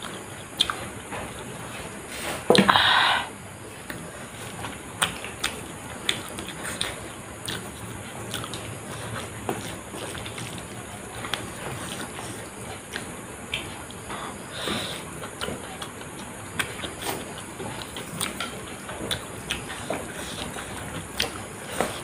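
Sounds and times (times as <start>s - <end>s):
person chewing food: 0.0s - 2.8s, 3.6s - 22.0s.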